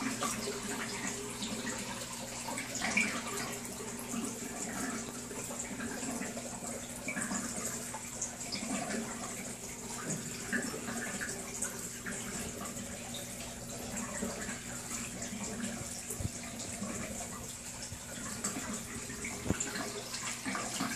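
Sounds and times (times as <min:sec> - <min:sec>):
aquarium water trickling: 0:00.0 - 0:20.9.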